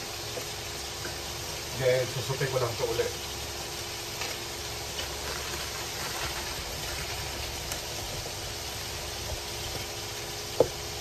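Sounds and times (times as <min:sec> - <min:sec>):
vegetables steaming in a wok: 0:00.0 - 0:11.0.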